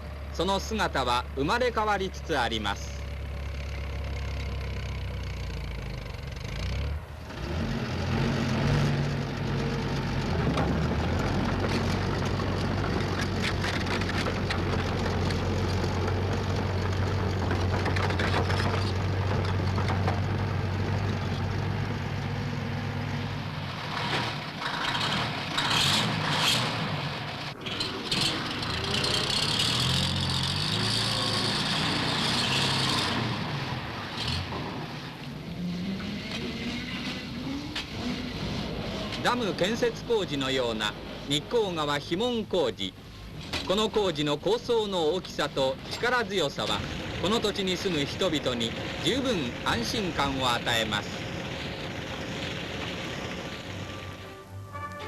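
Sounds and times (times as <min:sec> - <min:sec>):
heavy machinery engine running: 0:00.0 - 0:44.1, 0:45.4 - 0:54.9.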